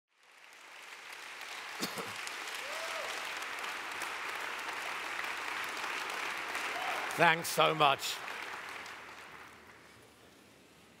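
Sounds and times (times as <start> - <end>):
large audience applauding: 0.1 - 10.3.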